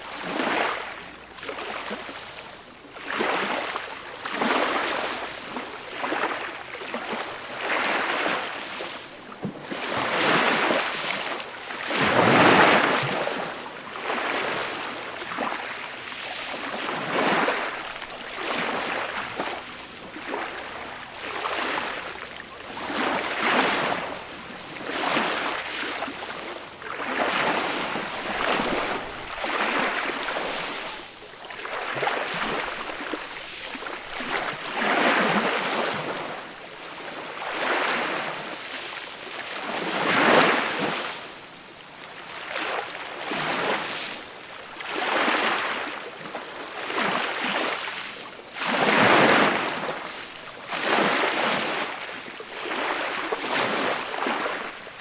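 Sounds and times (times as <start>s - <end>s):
small waves washing ashore: 0.0s - 55.0s.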